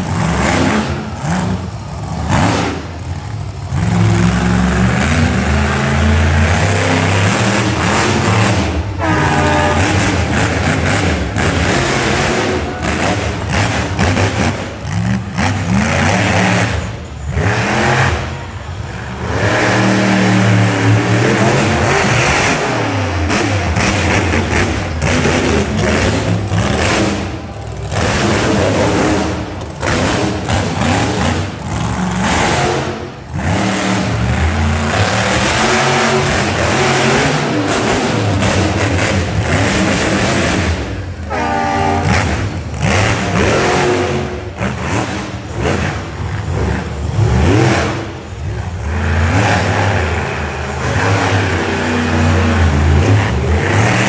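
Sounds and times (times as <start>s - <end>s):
truck engine revving hard: 0.0s - 54.0s.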